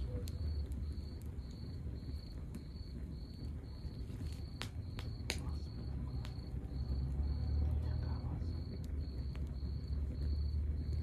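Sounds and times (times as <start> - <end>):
cricket chirping: 0.0 - 11.0
wood fire crackling: 0.0 - 11.0.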